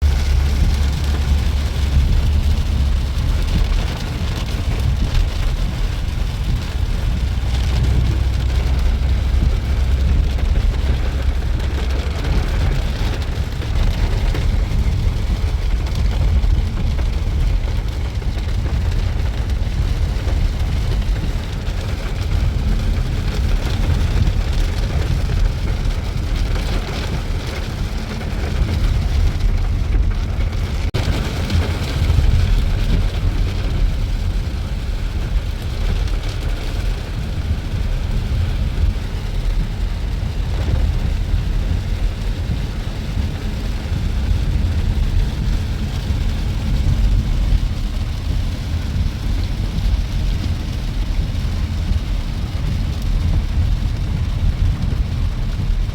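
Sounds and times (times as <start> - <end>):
continuous low rumble: 0.0 - 55.9
rain on a vehicle: 0.0 - 55.9.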